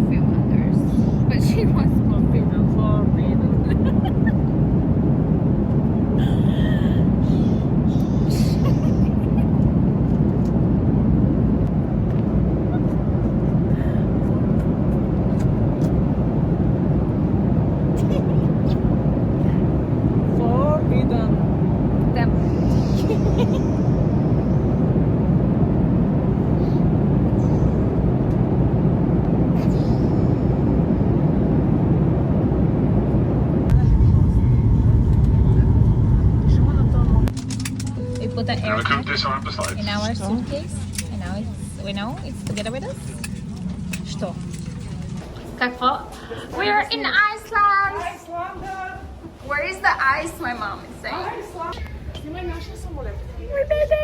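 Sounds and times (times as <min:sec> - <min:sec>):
airliner cabin jet engine rumble: 0:00.0 - 0:54.0.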